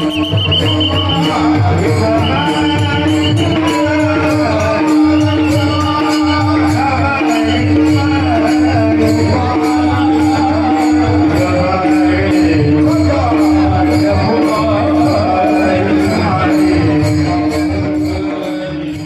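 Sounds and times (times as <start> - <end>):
group singing: 0.0 - 17.2
hand cymbals striking: 0.0 - 19.0.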